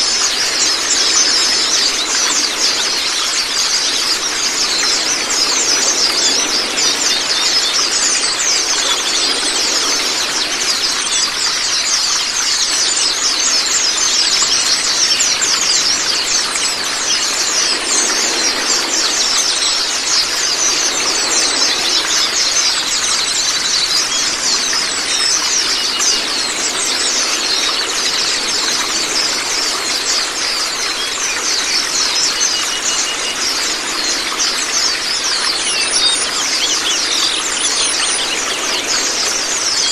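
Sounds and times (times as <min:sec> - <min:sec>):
birds twittering rapid high chirps: 0:00.0 - 0:39.9
running water rushing: 0:00.0 - 0:39.9.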